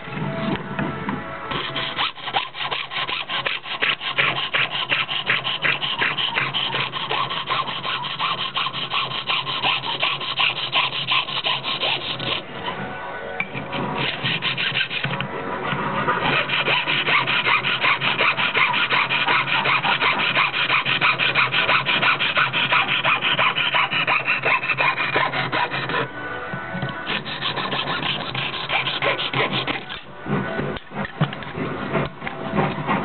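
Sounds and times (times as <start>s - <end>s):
fretsaw cutting: 1.5s - 12.4s, 13.6s - 26.1s, 27.0s - 30.1s.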